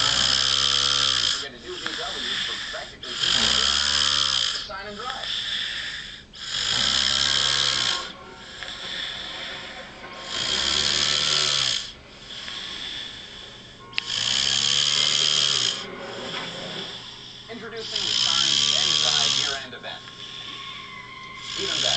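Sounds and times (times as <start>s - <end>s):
man snoring: 0.0s - 9.6s, 10.2s - 20.6s, 21.4s - 21.9s.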